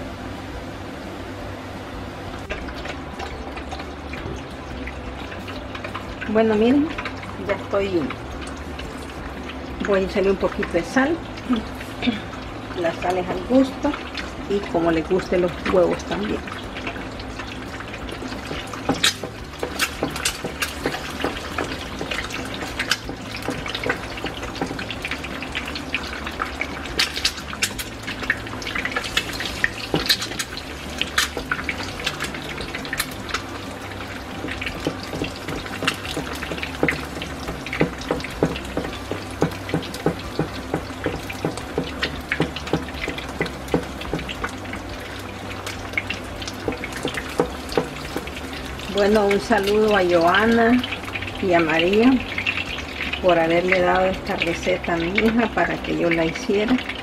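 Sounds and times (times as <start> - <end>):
egg sizzling in frying pan: 2.4 - 57.0.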